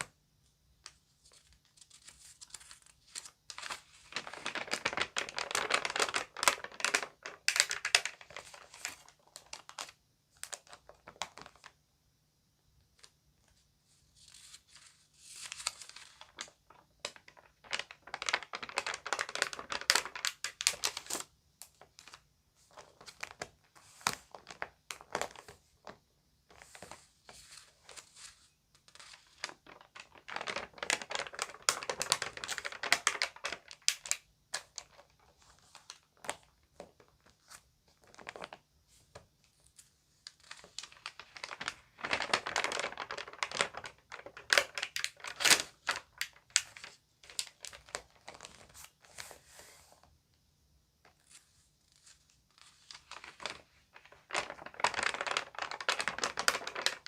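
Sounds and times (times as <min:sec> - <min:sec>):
magazine pages crinkling: 0:00.8 - 0:11.8, 0:14.1 - 0:49.6, 0:51.1 - 0:57.0.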